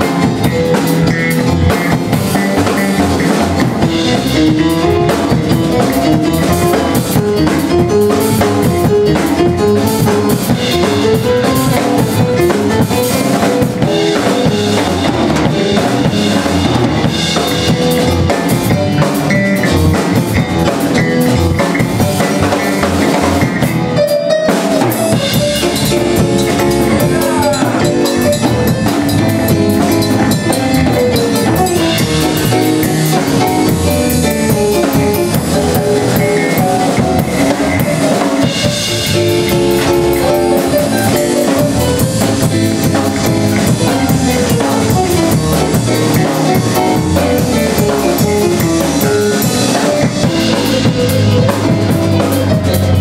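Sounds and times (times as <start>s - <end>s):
drum kit with rimshots: 0.0s - 53.0s
electric bass: 0.0s - 53.0s
electronic keyboard melody: 0.0s - 53.0s.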